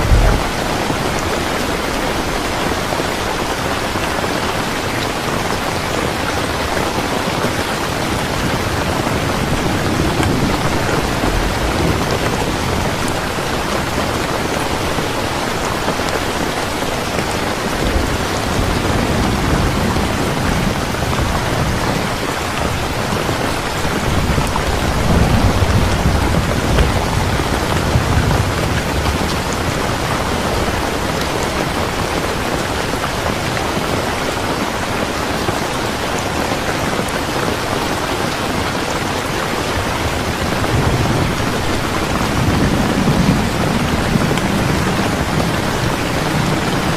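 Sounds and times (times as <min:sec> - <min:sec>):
thunder rumbling: 0:00.0 - 0:04.6, 0:07.9 - 0:33.9, 0:39.8 - 0:46.9
rain falling: 0:00.0 - 0:46.9.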